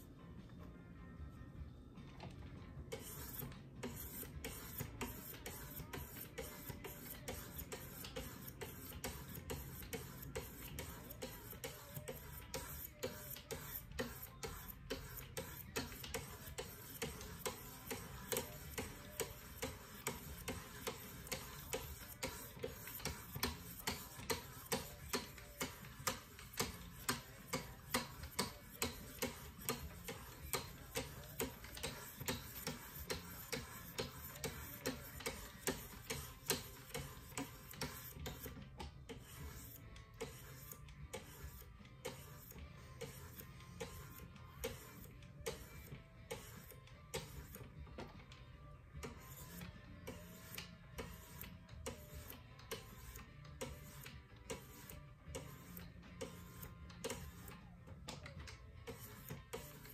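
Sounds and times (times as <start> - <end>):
steel scraping on sharpening stone: 2.9 - 47.6, 49.1 - 57.5, 58.9 - 59.9.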